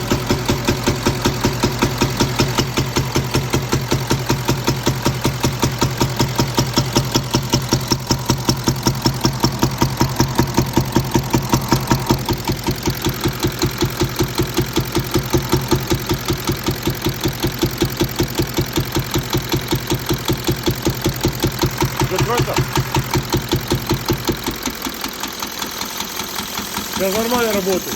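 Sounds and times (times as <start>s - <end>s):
diesel engine idling: 0.0s - 27.9s
rhythmic engine knocking: 0.0s - 27.9s.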